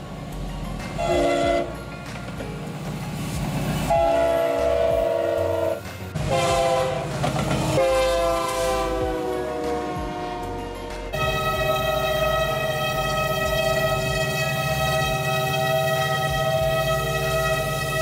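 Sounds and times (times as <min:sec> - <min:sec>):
locomotives rumbling past: 0:00.0 - 0:18.0
locomotive air horn blasts: 0:01.0 - 0:01.8, 0:03.9 - 0:18.0.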